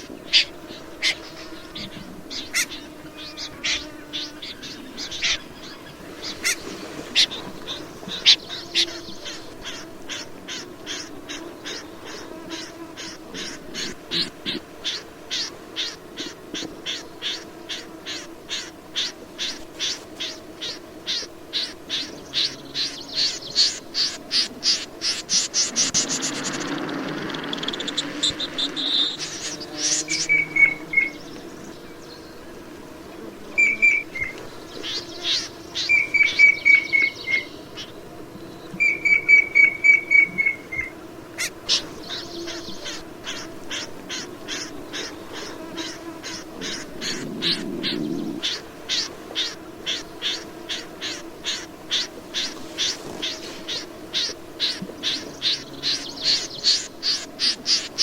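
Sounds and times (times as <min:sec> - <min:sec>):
bird calling sharp notes: 0:00.0 - 0:31.6, 0:33.6 - 0:38.0, 0:38.7 - 0:58.0.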